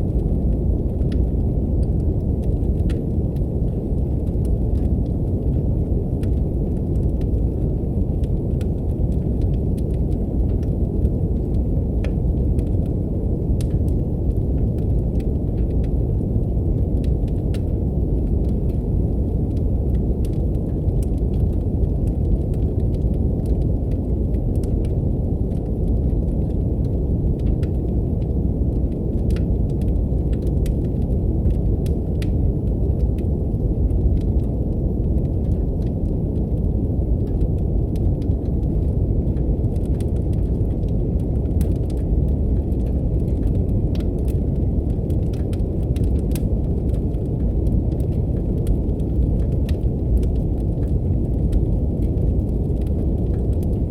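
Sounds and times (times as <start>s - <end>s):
deep brown noise: 0.0s - 53.9s
wood fire crackling: 0.0s - 53.9s.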